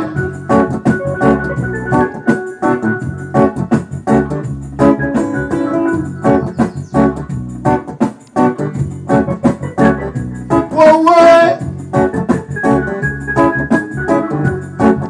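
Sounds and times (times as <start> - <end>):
organ-like keyboard chord stabs: 0.0 - 15.0
reggae bass line: 0.0 - 15.0.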